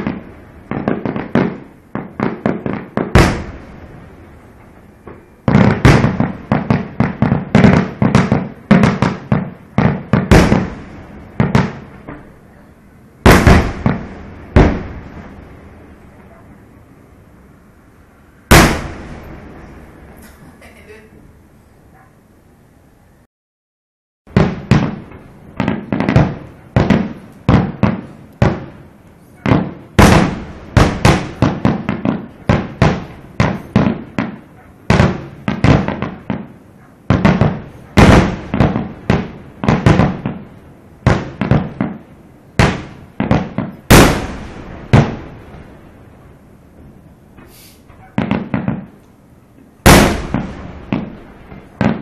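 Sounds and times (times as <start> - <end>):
fireworks bursting: 0.0 - 16.4, 18.4 - 21.1, 24.3 - 52.0.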